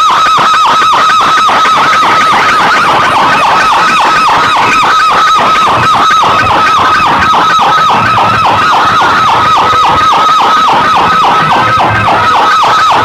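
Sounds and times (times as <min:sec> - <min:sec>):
electronic siren effect: 0:00.0 - 0:13.0.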